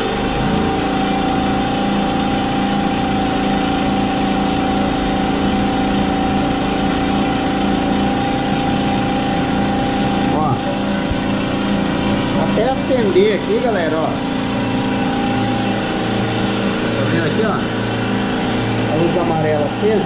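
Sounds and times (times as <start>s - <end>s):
air compressor humming: 0.0s - 20.0s.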